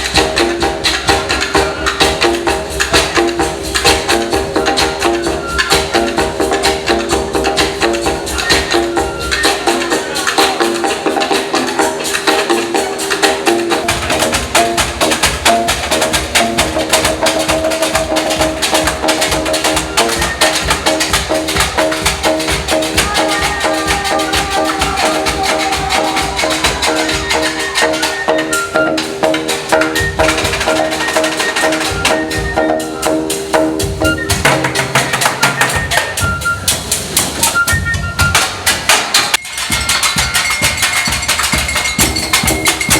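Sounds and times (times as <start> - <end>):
percussion-led music: 0.0 - 42.9.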